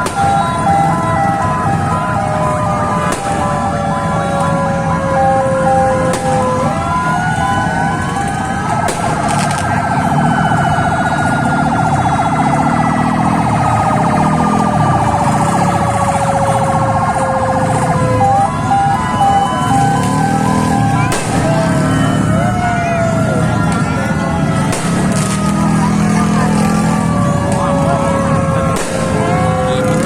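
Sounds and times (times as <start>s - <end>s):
fast warbling siren: 0.0s - 30.0s
slow wailing siren: 0.0s - 30.0s
two-tone hi-lo siren: 0.0s - 30.0s.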